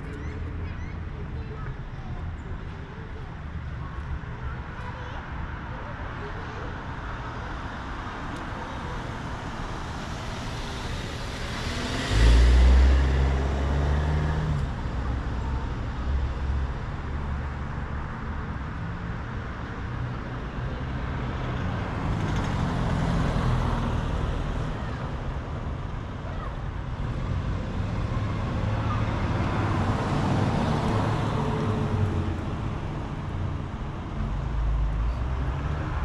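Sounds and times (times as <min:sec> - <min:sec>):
vehicle engine rumble passing: 0:07.0 - 0:36.0.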